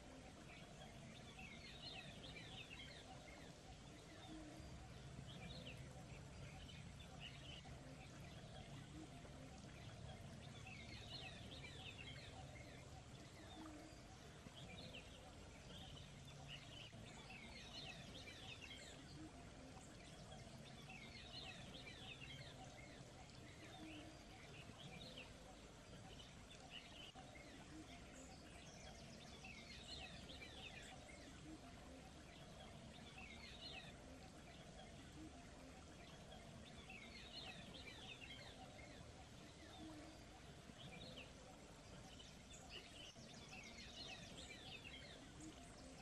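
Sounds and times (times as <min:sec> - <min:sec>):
faint bird chirping: 0:00.0 - 0:46.0
low background noise: 0:00.0 - 0:46.0.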